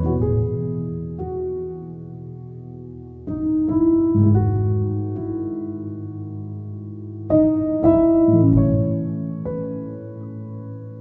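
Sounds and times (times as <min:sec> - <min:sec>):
piano notes and chords: 0:00.0 - 0:11.0.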